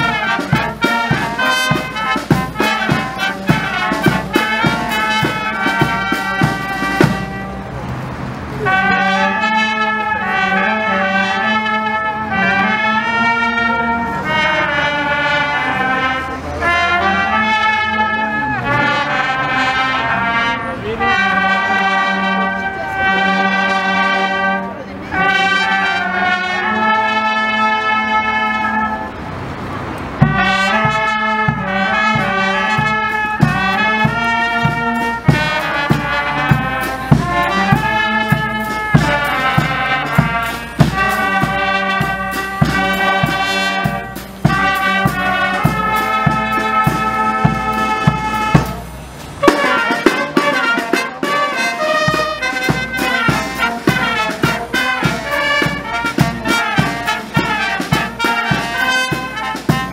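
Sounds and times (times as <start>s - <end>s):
brass band playing a march: 0.0s - 59.9s.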